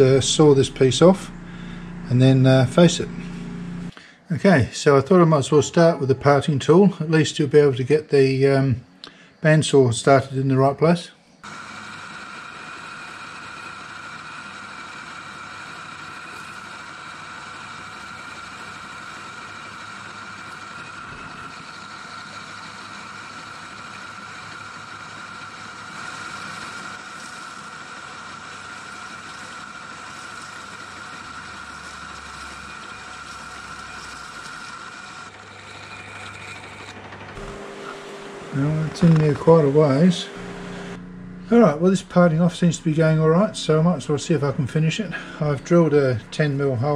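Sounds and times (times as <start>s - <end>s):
lathe cutting steel pipe whine: 0.0s - 3.9s, 11.4s - 46.9s.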